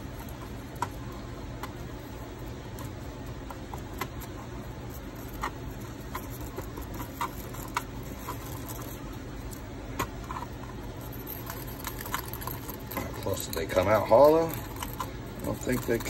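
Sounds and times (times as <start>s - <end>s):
metal pick ticking and scraping: 0.0s - 16.0s
steady low hum: 0.0s - 16.0s.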